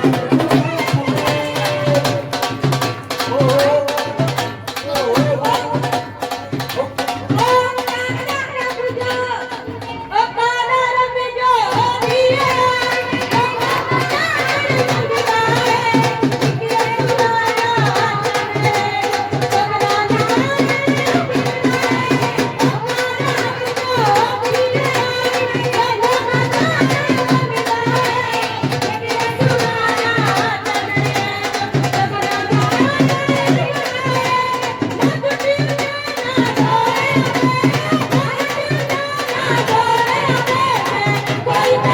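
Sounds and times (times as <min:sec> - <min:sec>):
driving drum beat: 0:00.0 - 0:10.2, 0:11.6 - 0:41.9.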